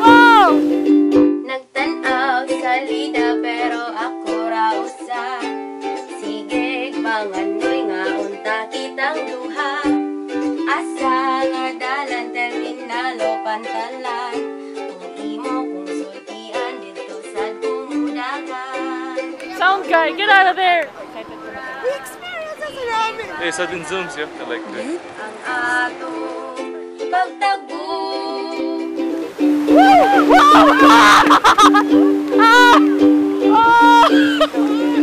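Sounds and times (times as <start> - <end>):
ukulele music: 0.0 - 35.0.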